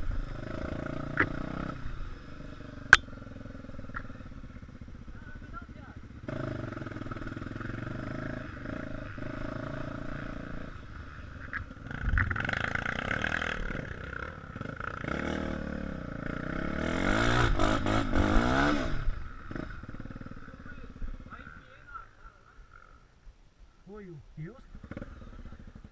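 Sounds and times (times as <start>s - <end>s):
motorcycle engine revving: 0.0s - 23.1s, 24.5s - 25.9s.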